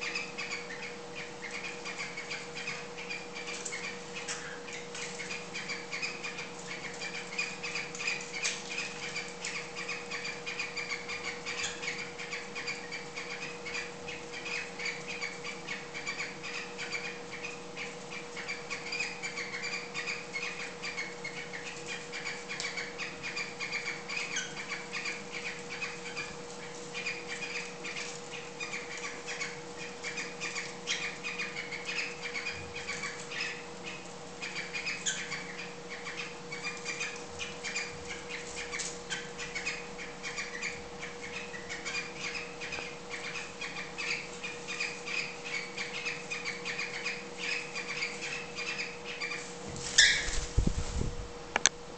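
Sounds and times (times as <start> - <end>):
cockatiels chirping: 0.0 - 50.6.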